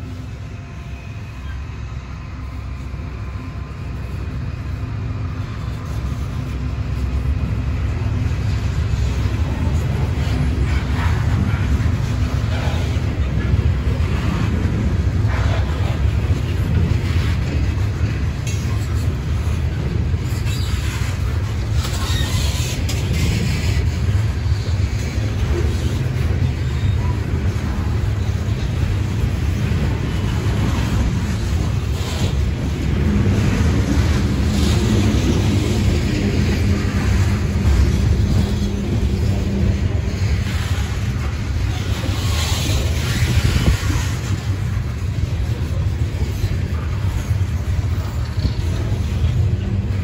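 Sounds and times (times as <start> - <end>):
freight train rolling past: 0.0 - 50.0
train hissing: 0.0 - 50.0.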